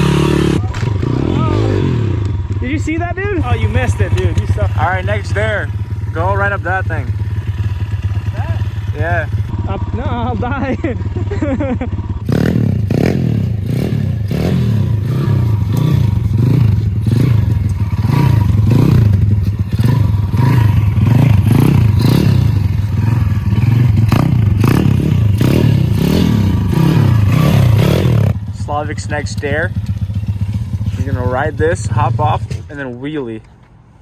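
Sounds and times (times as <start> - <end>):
motorbike engine revving: 0.0 - 32.8.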